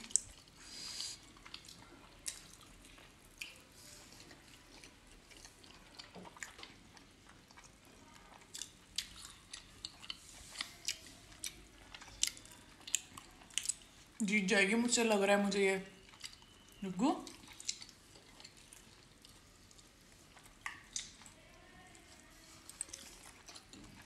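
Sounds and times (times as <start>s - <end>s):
wet chewing and mouth clicks: 0.0s - 14.2s, 16.0s - 24.0s.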